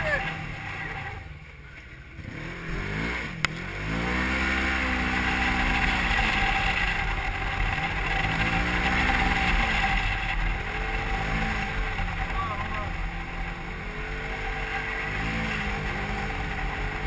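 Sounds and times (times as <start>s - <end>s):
engine revving: 0.0s - 1.5s, 2.1s - 17.0s.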